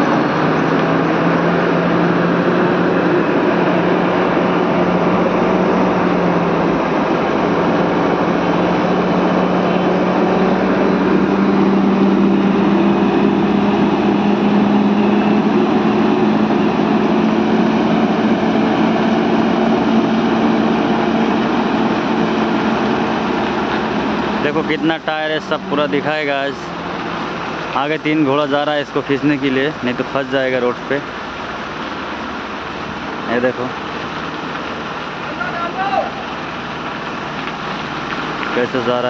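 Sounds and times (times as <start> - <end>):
diesel truck engines pulling: 0.0 - 39.0
tyres rumbling on road: 0.0 - 39.0.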